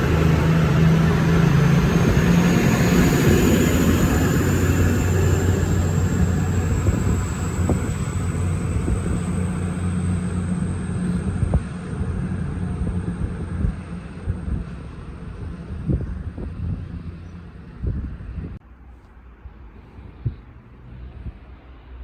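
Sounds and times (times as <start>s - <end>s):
high whine: 0.0s - 18.6s
diesel train engine hum: 0.0s - 22.0s.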